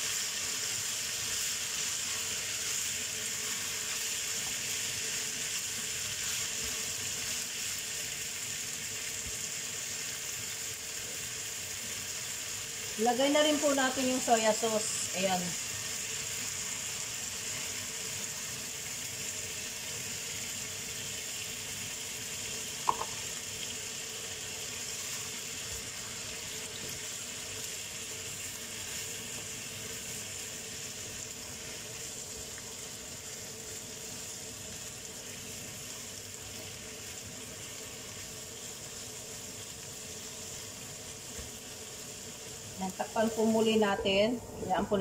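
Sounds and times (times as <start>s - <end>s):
food sizzling in a pan: 0.0s - 45.0s.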